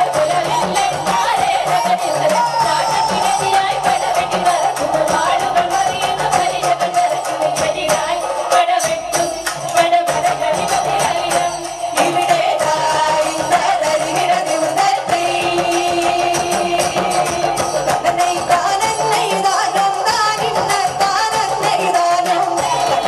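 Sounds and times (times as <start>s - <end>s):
hand percussion beat: 0.0s - 23.0s
women singing folk song: 0.0s - 23.0s.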